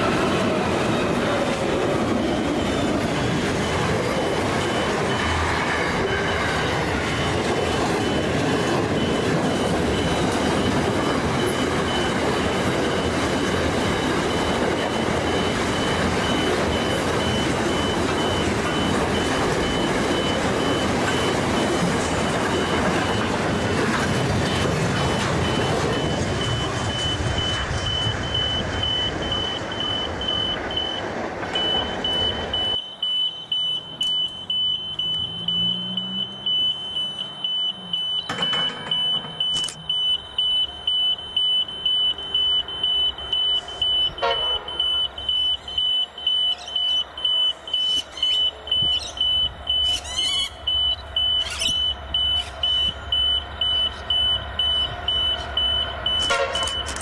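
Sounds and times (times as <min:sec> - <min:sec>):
freight train wagons rumbling: 0:00.0 - 0:57.0
high electronic beeping: 0:00.8 - 0:57.0.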